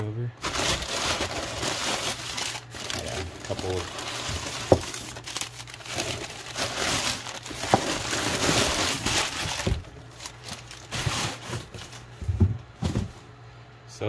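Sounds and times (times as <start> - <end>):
packing paper crinkling: 0.4 - 12.2.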